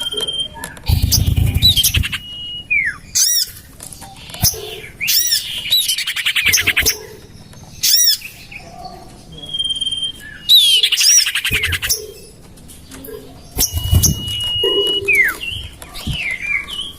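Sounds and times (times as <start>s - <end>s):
bird chattering trills: 0.0s - 16.9s
bird chirps: 0.0s - 16.9s.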